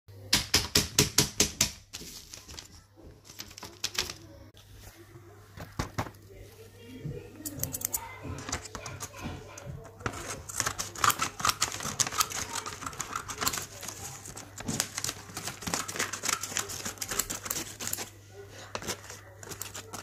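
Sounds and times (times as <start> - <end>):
paper rustling and crinkling: 1.8 - 6.6, 7.7 - 20.0.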